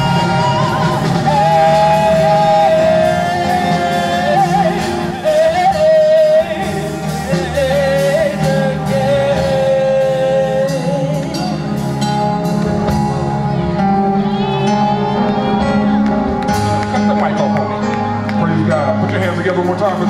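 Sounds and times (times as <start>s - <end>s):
instrumental backing with drums: 0.0s - 20.0s.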